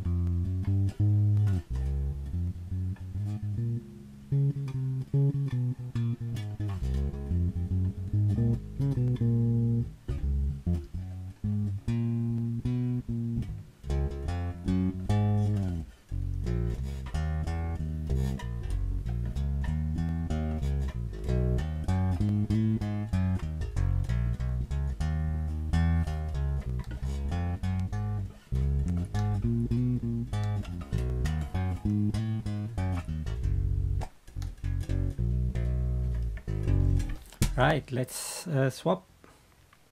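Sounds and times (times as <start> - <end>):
electric bass plucked notes: 0.0 - 38.0.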